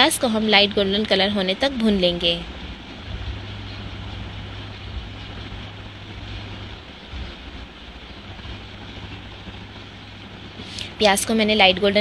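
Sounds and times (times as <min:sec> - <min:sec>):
low hum: 0:00.0 - 0:12.0
onion sizzling in hot oil: 0:00.0 - 0:12.0.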